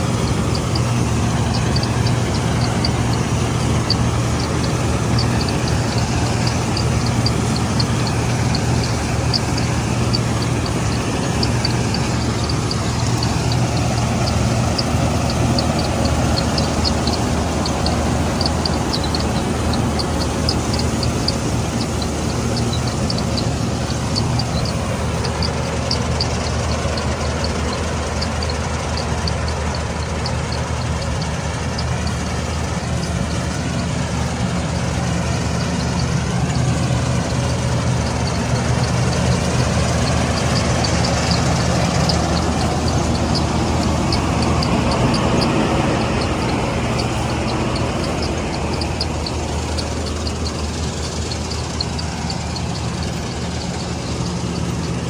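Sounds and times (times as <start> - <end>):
short high ticks: 0.0 - 33.4, 35.6 - 55.0
combine harvester humming: 0.0 - 55.0.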